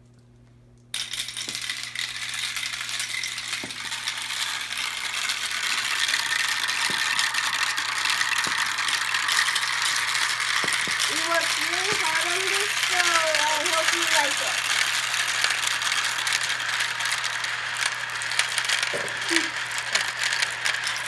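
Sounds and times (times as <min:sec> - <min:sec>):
marbles rattling down a run: 0:01.0 - 0:21.0.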